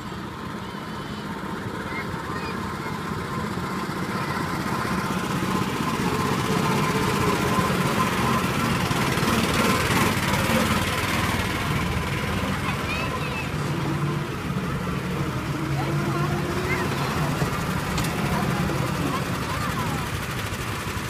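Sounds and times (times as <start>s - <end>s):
small engines of mini cars: 0.0s - 21.0s.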